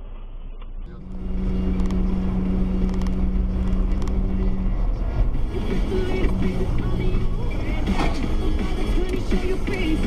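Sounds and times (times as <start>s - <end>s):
steady low drone: 0.0s - 10.0s
vehicle engine and road rumble: 0.0s - 10.0s.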